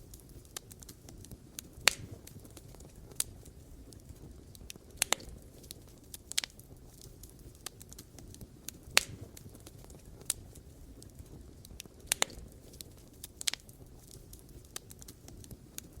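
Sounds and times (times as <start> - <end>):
campfire crackling and popping: 0.0 - 16.0
low rumble of fire: 0.0 - 16.0.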